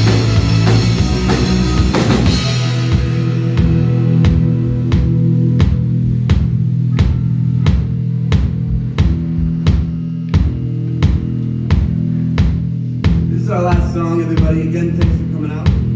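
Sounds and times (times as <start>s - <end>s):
electric guitar and bass chords: 0.0s - 15.9s
steady drum beat: 0.0s - 15.9s.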